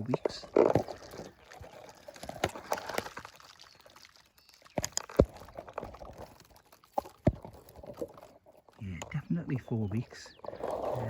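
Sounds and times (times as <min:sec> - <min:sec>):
twigs snapping: 0:00.0 - 0:09.2
foliage and twigs rustling: 0:00.0 - 0:11.0.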